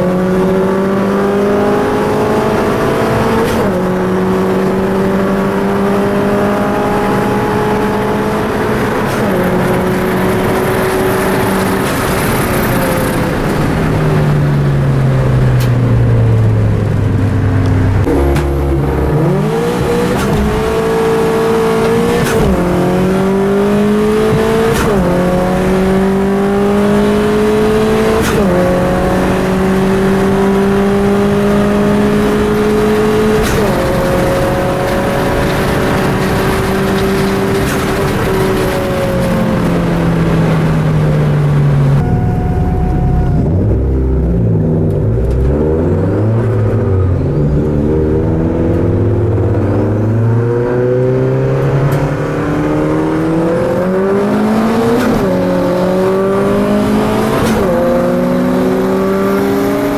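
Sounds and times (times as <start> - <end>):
car engine accelerating inside cabin: 0.0 - 59.9
car engine heard from outside: 0.0 - 59.9.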